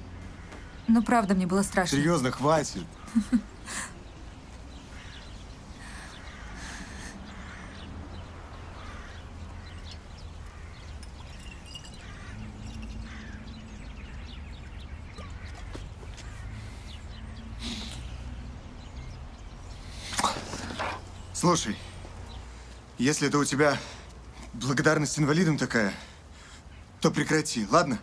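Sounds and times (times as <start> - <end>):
faint bird calls: 0.0 - 23.0.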